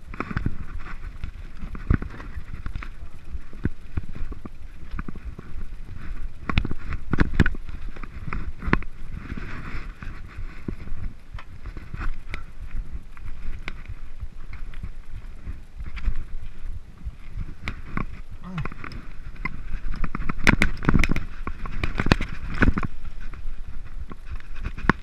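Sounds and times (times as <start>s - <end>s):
bike rumbling on rocky trail: 0.0s - 25.0s
wheels knocking on rocks: 0.0s - 25.0s.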